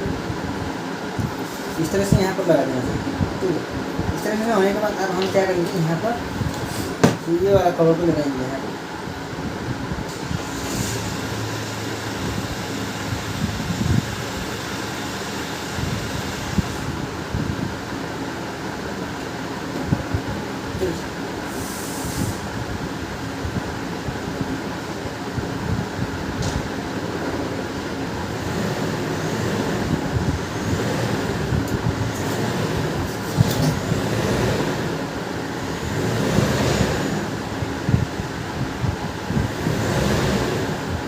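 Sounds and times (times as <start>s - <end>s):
fan-like background hum: 0.0s - 41.0s
low rumbling background noise: 0.0s - 41.0s.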